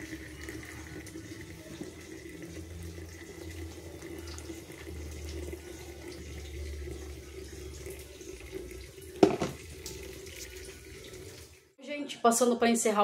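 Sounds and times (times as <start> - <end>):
water trickling from kettle: 0.0 - 11.7.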